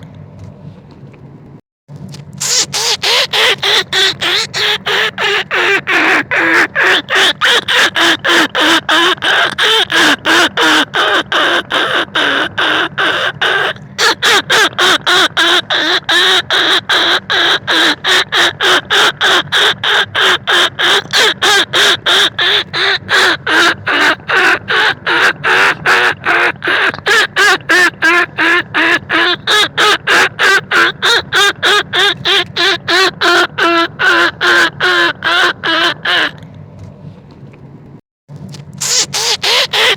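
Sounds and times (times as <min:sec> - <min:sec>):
rat calling lure calls: 0:02.4 - 0:36.4, 0:38.5 - 0:39.9.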